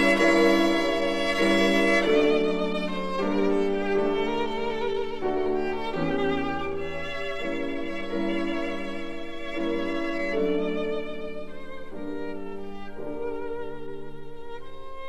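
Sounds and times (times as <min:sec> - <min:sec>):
slow violin melody: 0:00.0 - 0:15.0.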